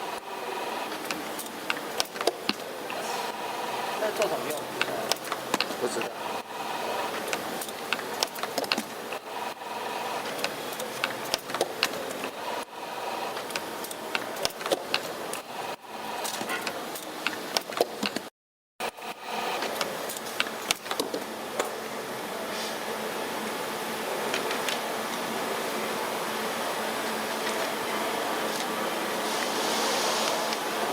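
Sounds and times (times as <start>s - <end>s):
machine mechanical hum: 0.0s - 30.9s.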